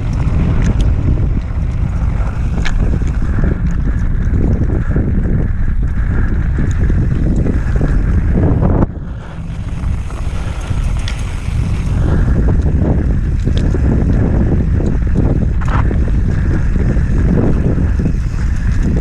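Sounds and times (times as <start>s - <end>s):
bike rattling over rough trail: 0.0s - 19.0s
wind rushing over microphone: 0.0s - 19.0s.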